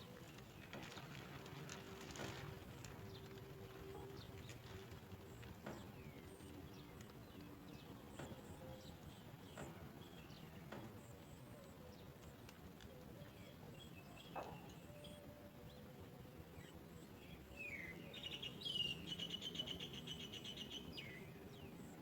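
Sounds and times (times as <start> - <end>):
small birds chirping: 2.8 - 22.0.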